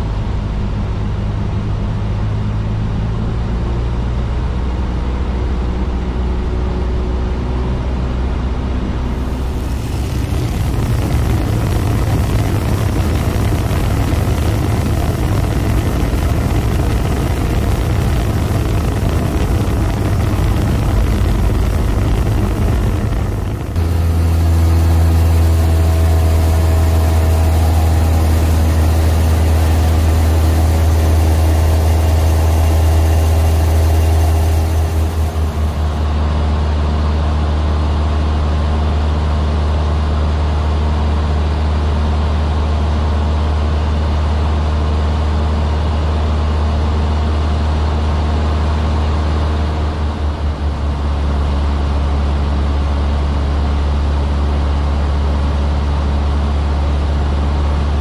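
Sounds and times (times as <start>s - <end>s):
airplane engine droning: 0.0s - 58.0s.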